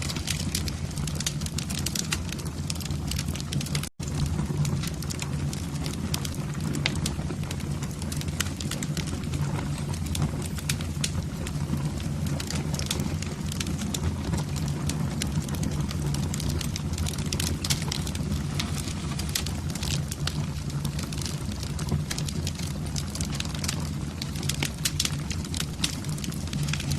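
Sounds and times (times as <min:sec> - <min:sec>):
low rumble of flames: 0:00.0 - 0:26.9
wood fire crackling: 0:00.0 - 0:26.9.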